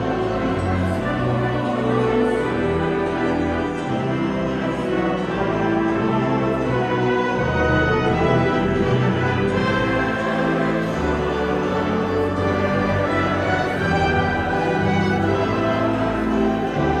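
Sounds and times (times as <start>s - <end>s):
choir singing: 0.0s - 17.0s
orchestra playing slow chords: 0.0s - 17.0s.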